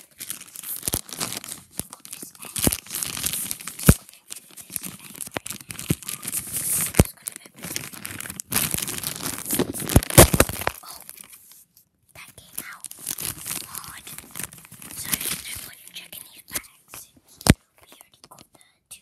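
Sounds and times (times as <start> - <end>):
wrapping crumpled and torn: 0.0 - 18.5.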